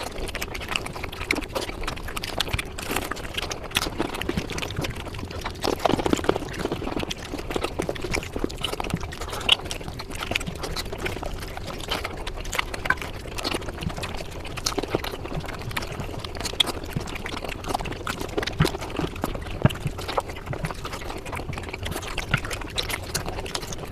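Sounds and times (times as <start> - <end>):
wet chewing and slurping: 0.0 - 23.9.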